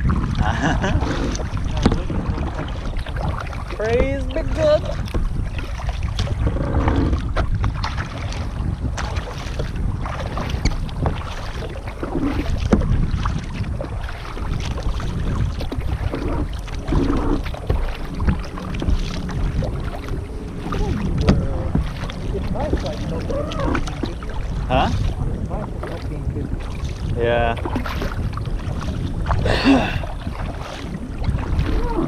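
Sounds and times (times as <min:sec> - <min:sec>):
paddle splashing in water: 0:00.0 - 0:32.0
wind buffeting microphone: 0:00.0 - 0:32.0.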